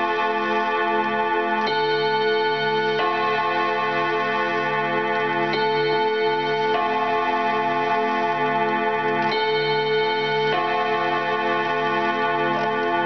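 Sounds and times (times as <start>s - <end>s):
clock chiming on rod gongs: 0.0s - 13.0s.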